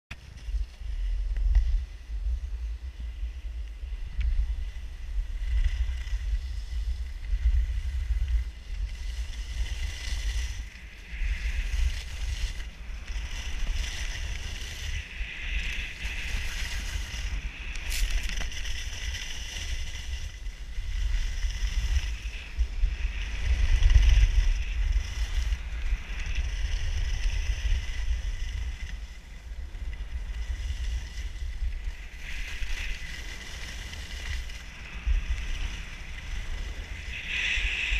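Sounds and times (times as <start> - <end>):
wind buffeting microphone: 0.1 - 37.9
skis scraping on packed snow: 0.2 - 37.9.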